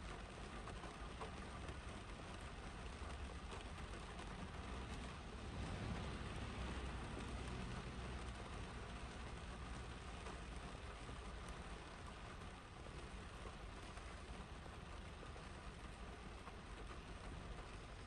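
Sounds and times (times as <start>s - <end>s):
rain on car roof: 0.0s - 18.0s
car passing on wet road: 2.0s - 17.7s.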